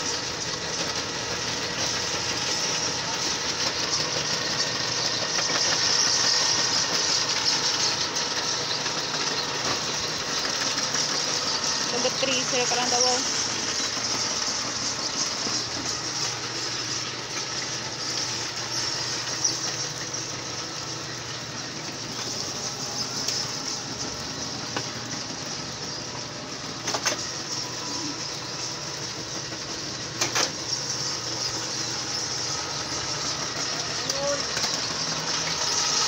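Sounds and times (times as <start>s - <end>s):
soil mixer running: 0.0s - 36.0s.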